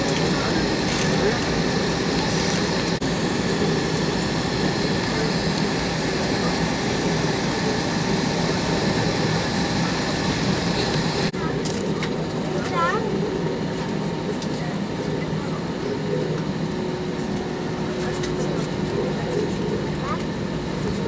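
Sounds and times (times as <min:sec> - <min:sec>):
jet engines idling: 0:00.0 - 0:21.0.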